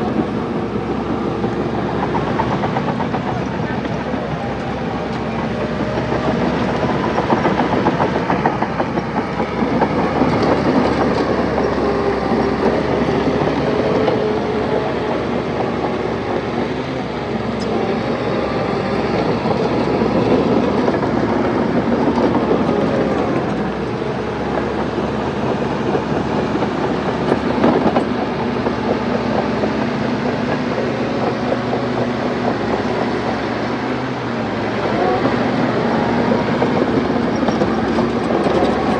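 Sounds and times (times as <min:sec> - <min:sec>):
bulldozer diesel engine running: 0:00.0 - 0:38.9
steel tracks clanking: 0:00.0 - 0:38.9.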